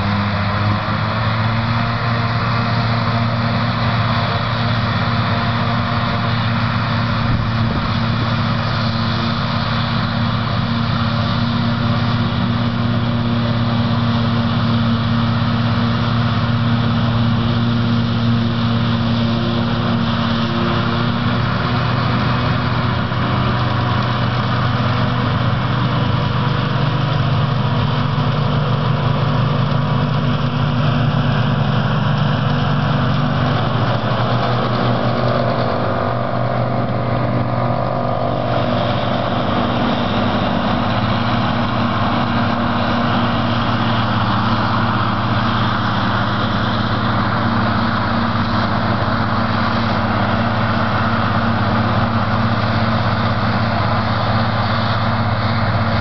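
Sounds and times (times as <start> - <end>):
farm diesel engines droning: 0.0 - 56.0.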